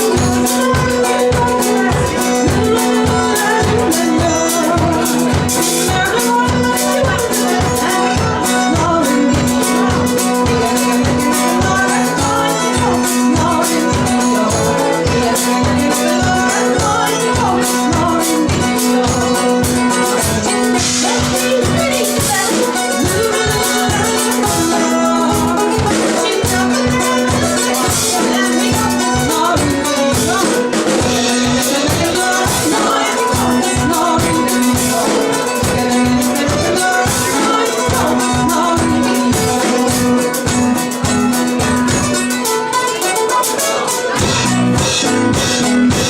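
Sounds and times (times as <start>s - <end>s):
steady low drum beat: 0.0s - 42.5s, 44.0s - 46.0s
folk band playing: 0.0s - 46.0s.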